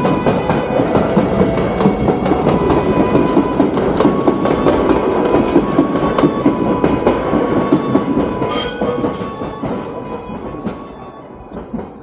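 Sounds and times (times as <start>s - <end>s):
steady high tone: 0.0s - 12.0s
wheels clacking over rail joints: 0.0s - 12.0s.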